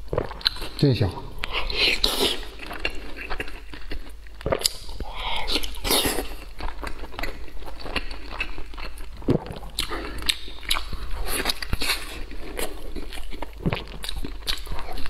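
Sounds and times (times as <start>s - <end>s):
man chewing and mouth smacking: 0.0s - 15.0s.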